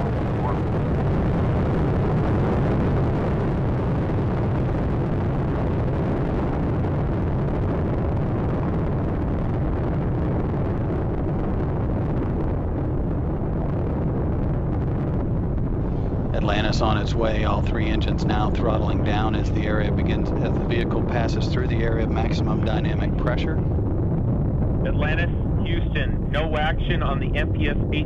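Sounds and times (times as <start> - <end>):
rocket engines rumbling: 0.0 - 28.0.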